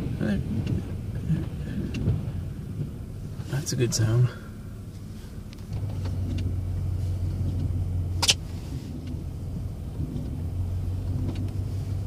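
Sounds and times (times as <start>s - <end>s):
plow truck engine rumbling: 0.0s - 12.0s.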